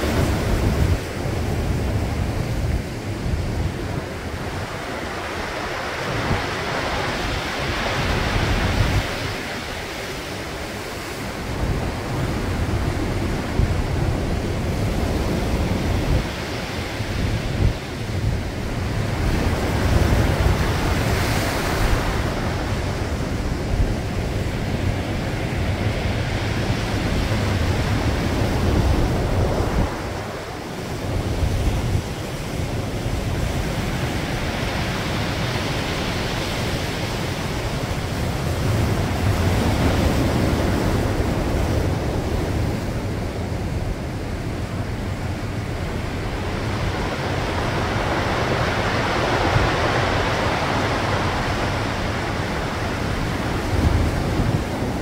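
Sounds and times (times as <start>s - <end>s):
surf breaking on rocky shore: 0.0s - 55.0s
wind buffeting microphone: 0.0s - 55.0s.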